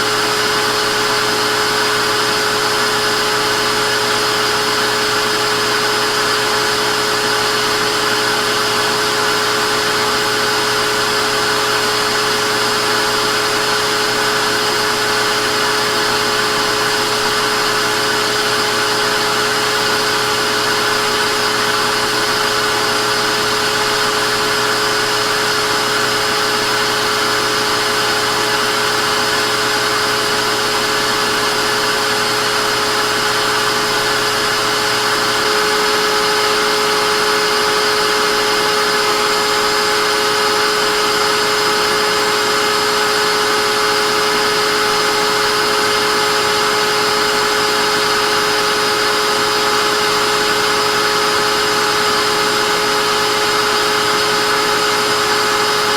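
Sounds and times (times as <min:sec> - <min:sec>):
vacuum cleaner motor whirring: 0:00.0 - 0:55.9.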